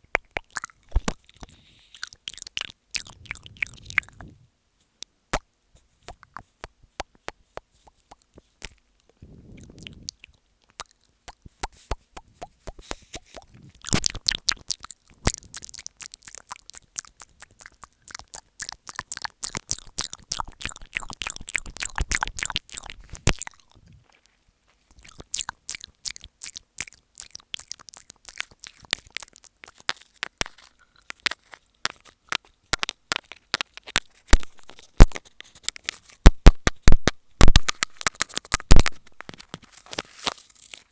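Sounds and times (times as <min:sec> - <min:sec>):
wet mouth clicks and lip smacks: 0:00.0 - 0:04.4, 0:05.0 - 0:24.0, 0:24.9 - 0:39.5.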